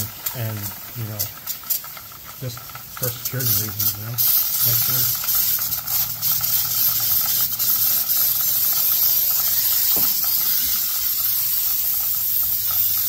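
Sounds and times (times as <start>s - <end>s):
aerosol can spraying: 0.0s - 13.0s.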